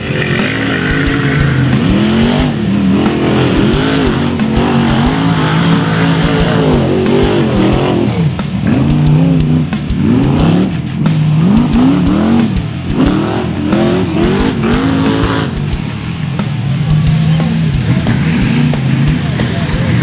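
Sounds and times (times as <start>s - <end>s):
engine revving hard: 0.0s - 20.0s
rock guitar music: 0.0s - 20.0s.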